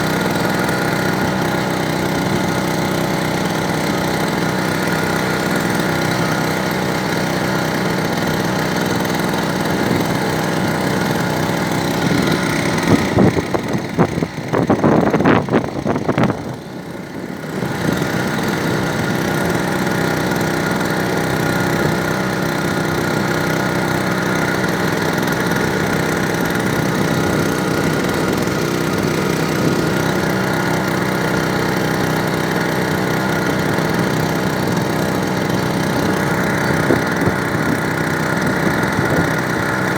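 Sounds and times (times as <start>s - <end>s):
small boat engine running: 0.0s - 39.9s.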